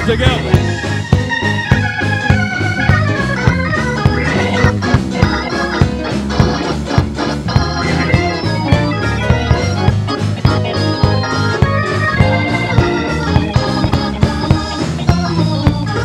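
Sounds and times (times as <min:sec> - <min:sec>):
bass line: 0:00.0 - 0:16.0
organ chords: 0:00.0 - 0:16.0
steady drum beat: 0:00.0 - 0:16.0.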